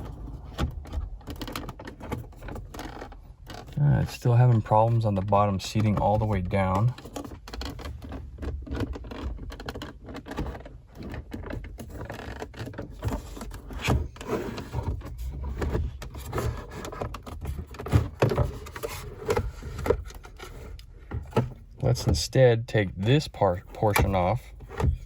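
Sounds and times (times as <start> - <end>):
hard plastic knocks and scrapes: 0.0 - 25.0.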